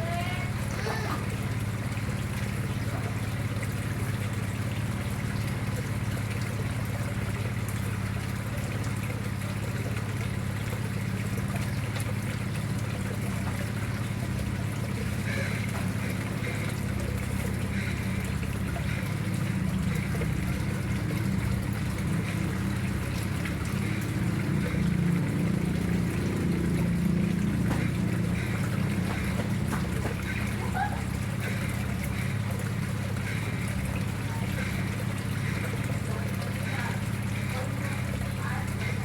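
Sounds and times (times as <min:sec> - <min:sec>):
water trickling into pond: 0:00.0 - 0:39.0.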